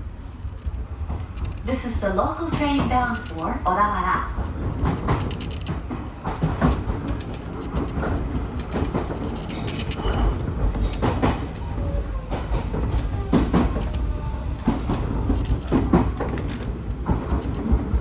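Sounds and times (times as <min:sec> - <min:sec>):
electric train rumbling: 0:00.0 - 0:18.0
wheels clacking on track: 0:00.6 - 0:18.0.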